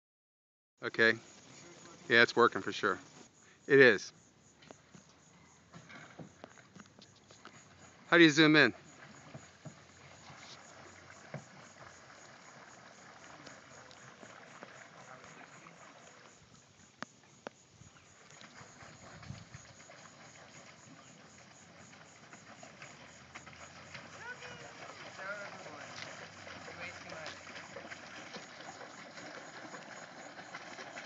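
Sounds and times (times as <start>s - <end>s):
paddle wheel splashing in water: 5.7s - 31.0s.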